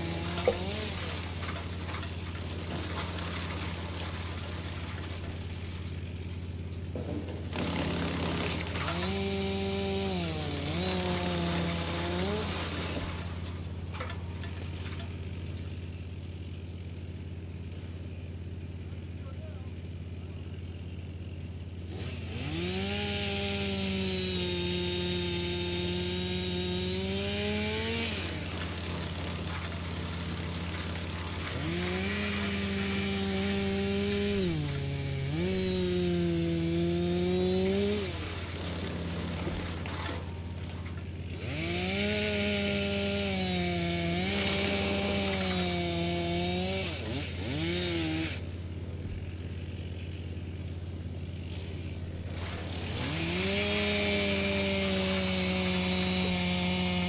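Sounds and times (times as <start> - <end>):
wood chipper engine: 0.0 - 57.0
wood chipping rush: 0.0 - 57.0.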